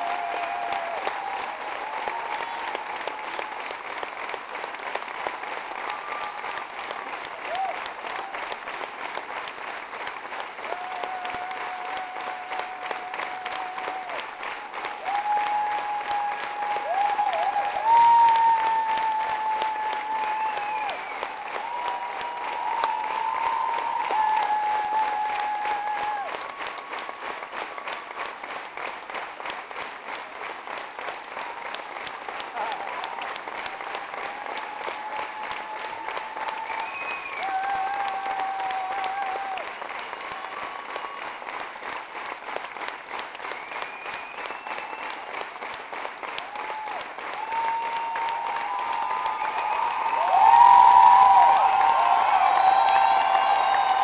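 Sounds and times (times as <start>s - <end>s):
audience clapping: 0.0s - 54.0s.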